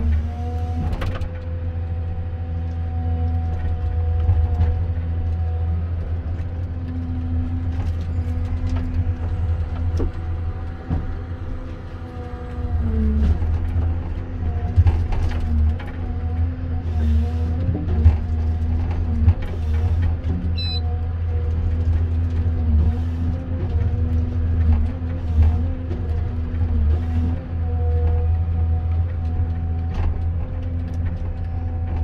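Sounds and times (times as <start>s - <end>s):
diesel harvester rumble and whine: 0.0s - 32.0s.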